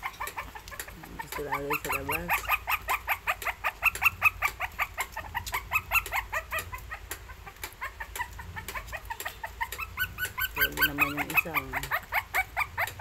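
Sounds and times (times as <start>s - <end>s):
puppy whimpering: 0.0s - 13.0s.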